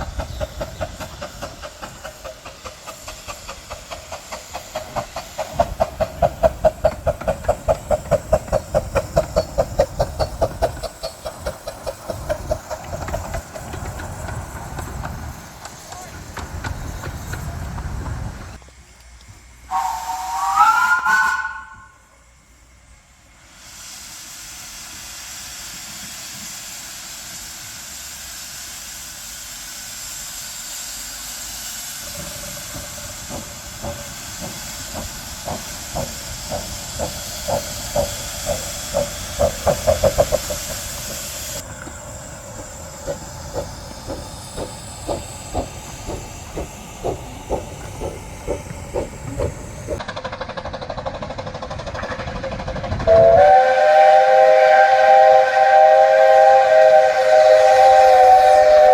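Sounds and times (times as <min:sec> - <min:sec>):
steam hissing: 0:00.0 - 0:58.9
steam locomotive chuffing: 0:00.0 - 0:58.9.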